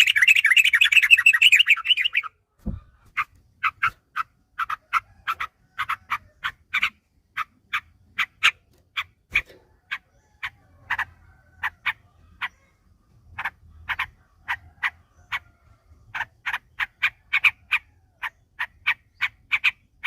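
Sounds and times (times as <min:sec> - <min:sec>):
bird sharp chirping: 0:00.0 - 0:20.0.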